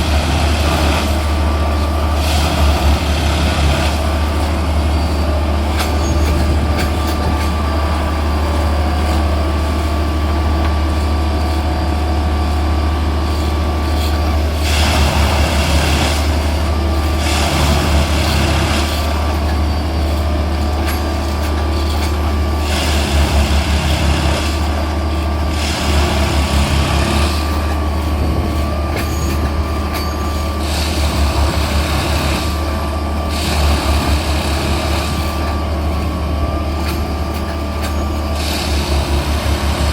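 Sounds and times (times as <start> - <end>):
loud machine noise bursts: 0.0 - 39.9.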